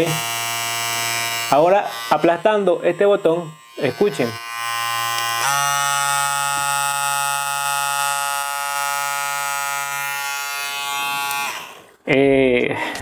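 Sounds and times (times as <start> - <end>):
hair clipper motor buzzing: 0.0 - 11.9.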